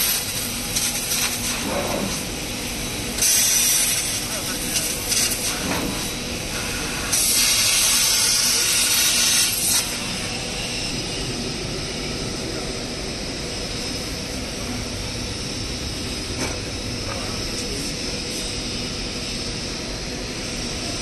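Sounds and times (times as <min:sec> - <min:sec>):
laser cutter hissing: 0:00.0 - 0:21.0.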